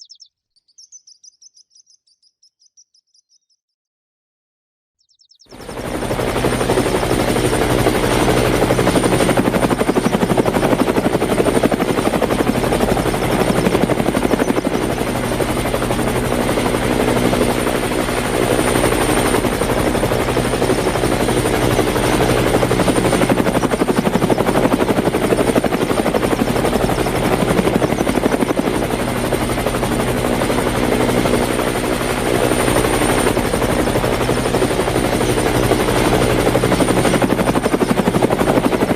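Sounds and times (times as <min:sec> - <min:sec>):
helicopter rotor and engine: 0:05.5 - 0:38.9.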